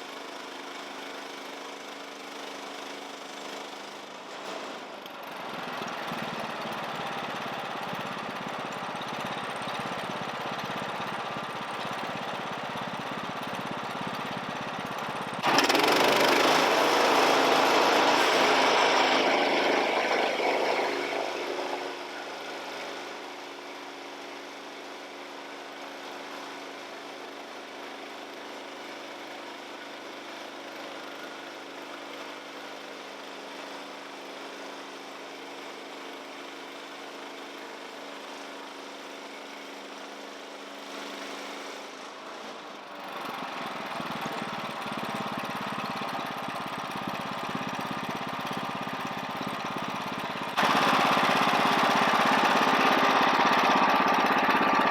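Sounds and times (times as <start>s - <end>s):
small petrol engine running: 0.0s - 54.9s.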